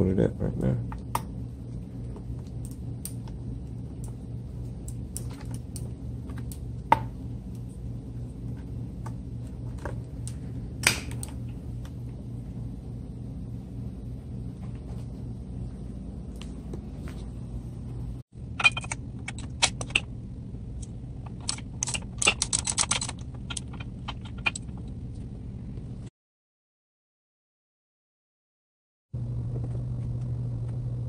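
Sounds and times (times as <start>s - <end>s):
steady low hum: 0.0s - 26.1s, 29.2s - 31.0s.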